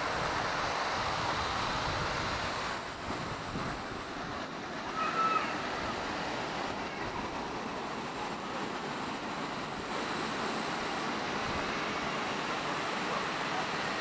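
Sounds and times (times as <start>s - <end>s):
running stream water: 0.0s - 14.0s.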